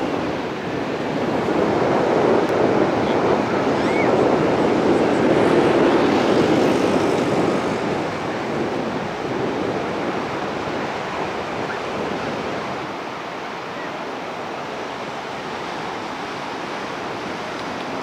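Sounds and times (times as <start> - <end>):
ocean surf breaking: 0.0 - 18.0.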